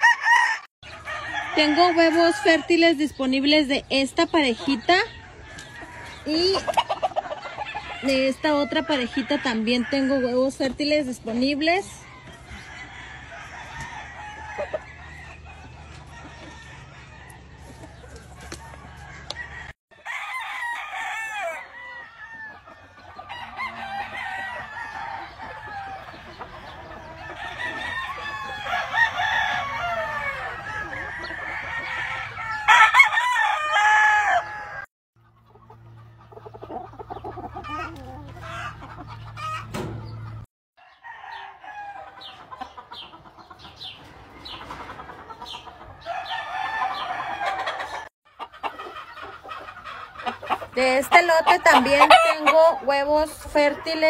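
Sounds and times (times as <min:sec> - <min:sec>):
roosters crowing: 0:00.0 - 0:34.9, 0:35.8 - 0:54.0
hens clucking: 0:00.8 - 0:19.8, 0:20.6 - 0:54.0.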